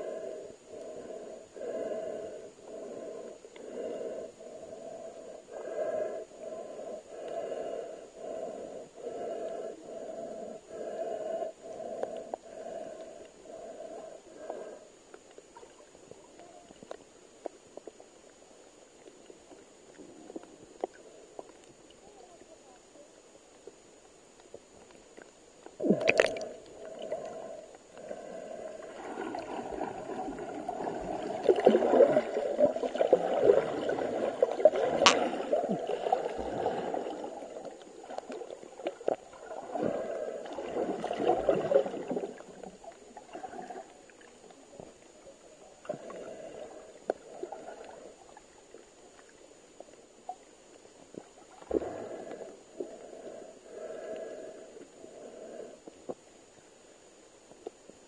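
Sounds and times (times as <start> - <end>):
underwater water sloshing: 0.0 - 56.6.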